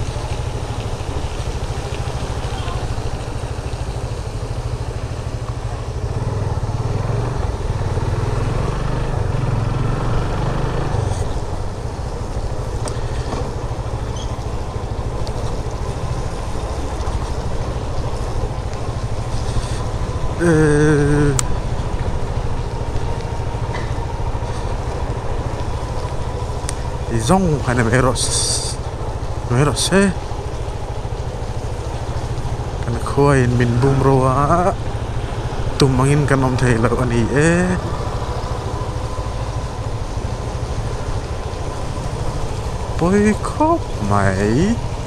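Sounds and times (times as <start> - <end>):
motorcycle engine rumble: 0.0 - 45.0.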